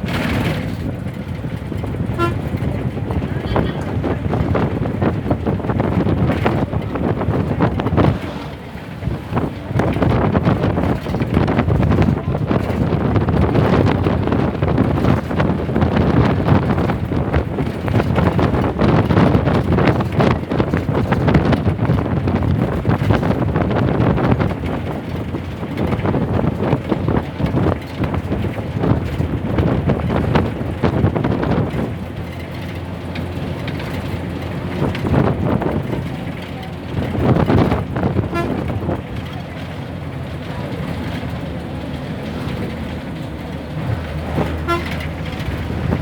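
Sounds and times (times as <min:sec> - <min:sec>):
bus body rattling: 0:00.0 - 0:46.0
bus engine drone: 0:00.0 - 0:46.0
road and wind noise: 0:00.0 - 0:46.0.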